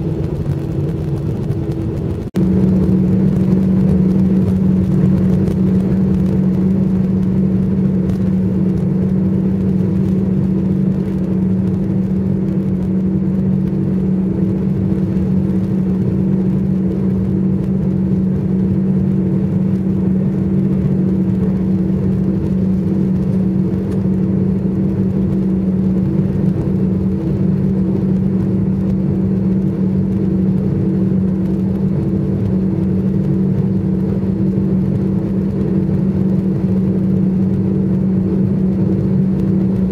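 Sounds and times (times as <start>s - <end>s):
airliner cabin engine hum: 0.0s - 39.9s.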